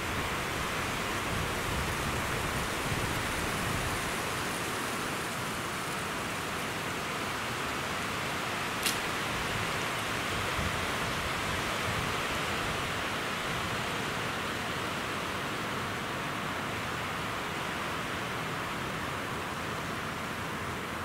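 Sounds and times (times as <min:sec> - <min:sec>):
wind through pines: 0:00.0 - 0:21.0.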